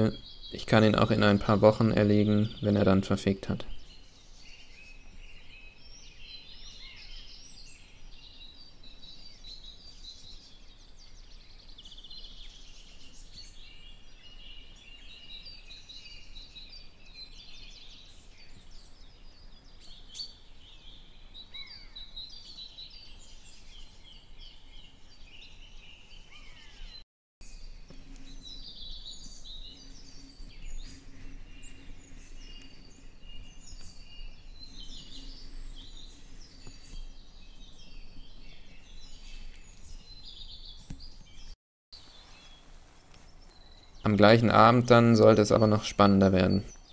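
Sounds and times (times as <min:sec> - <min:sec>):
songbirds singing: 0:00.0 - 0:46.9.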